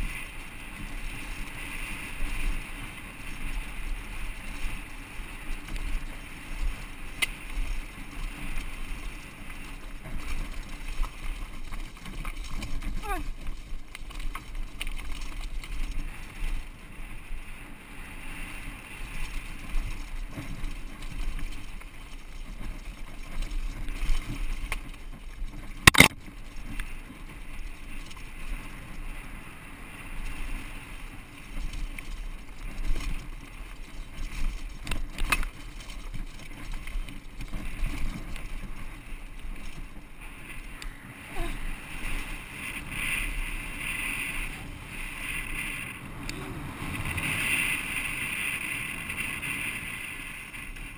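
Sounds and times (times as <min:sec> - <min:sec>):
bike rattling: 0:00.0 - 0:50.9
wind rumble on microphone: 0:00.0 - 0:50.9
tyres crunching on loose stones: 0:04.9 - 0:17.4, 0:19.0 - 0:29.1, 0:30.2 - 0:49.8.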